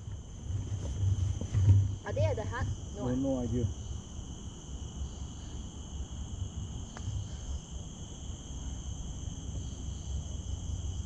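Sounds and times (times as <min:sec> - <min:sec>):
insect chorus high drone: 0:00.0 - 0:11.0.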